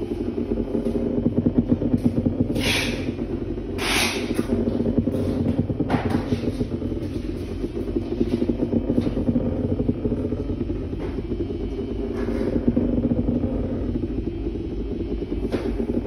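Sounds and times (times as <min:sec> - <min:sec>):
vibrator buzzing: 0:00.0 - 0:16.0
vibrator rattling against surface: 0:00.0 - 0:16.0.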